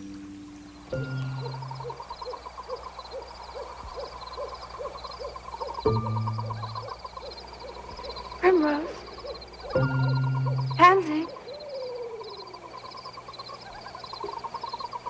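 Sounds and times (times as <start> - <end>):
fast steady chirping: 0.0 - 15.0
hooting call: 0.0 - 15.0.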